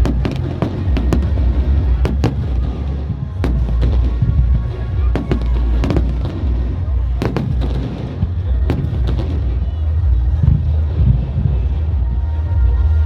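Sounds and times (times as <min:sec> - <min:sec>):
fireworks bangs: 0:00.0 - 0:12.0
background music: 0:00.0 - 0:13.0
low rumble: 0:00.0 - 0:13.0.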